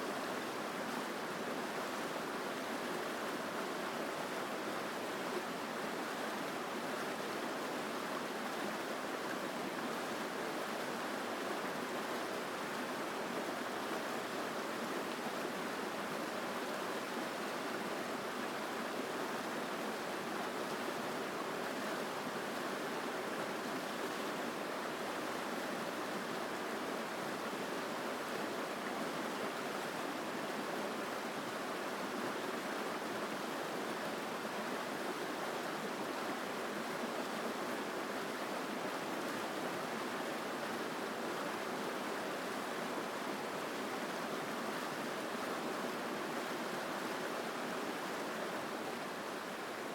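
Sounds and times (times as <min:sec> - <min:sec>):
mountain stream rushing: 0:00.0 - 0:49.9.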